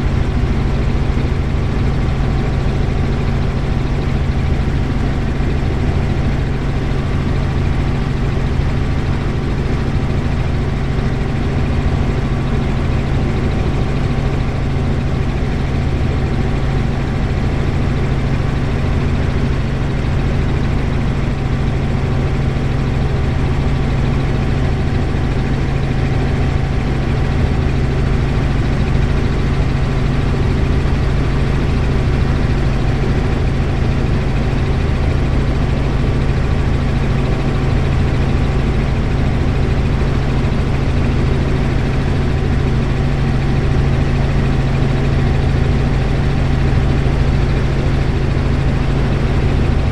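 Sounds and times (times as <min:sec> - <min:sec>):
helicopter engine and rotor: 0:00.0 - 0:49.9.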